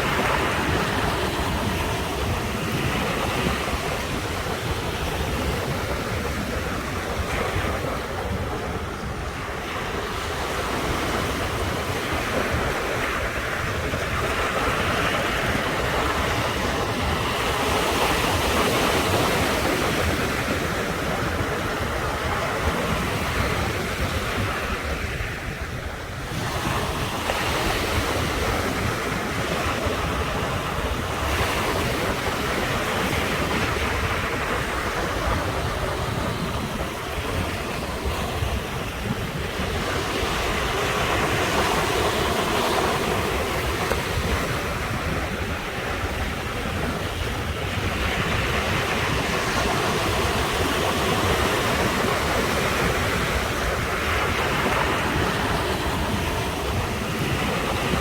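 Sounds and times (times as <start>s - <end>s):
waves breaking on shore: 0.0s - 58.0s.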